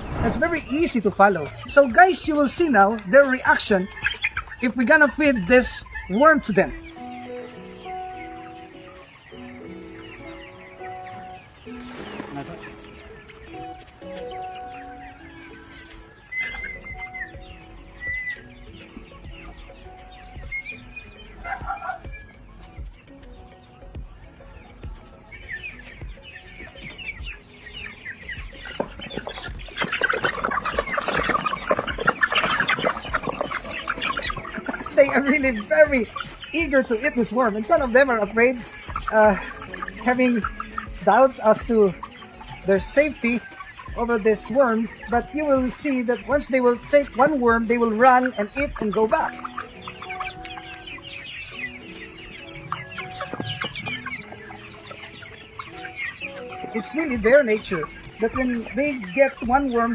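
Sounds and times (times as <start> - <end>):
chickens clucking and calling: 0.0 - 59.9.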